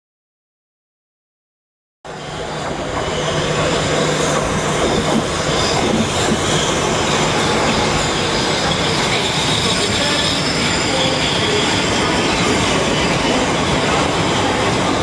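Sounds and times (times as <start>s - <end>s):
electric train running in: 2.1s - 15.0s.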